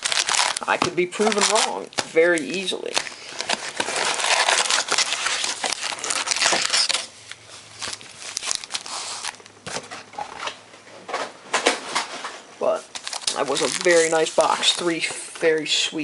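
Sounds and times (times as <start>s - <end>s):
plastic wrapping crinkling and tearing: 0.0s - 10.5s, 12.8s - 15.8s.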